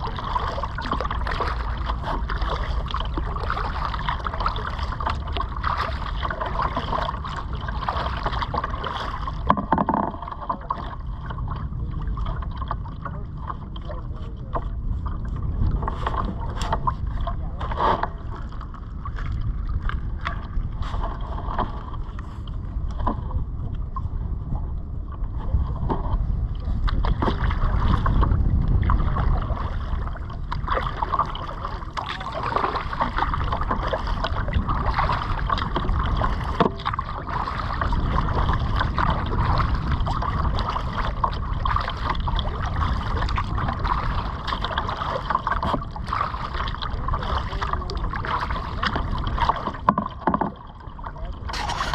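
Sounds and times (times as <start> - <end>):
paddle strokes and splashes: 0.0 - 51.9
wind rumble on microphone: 0.0 - 51.9.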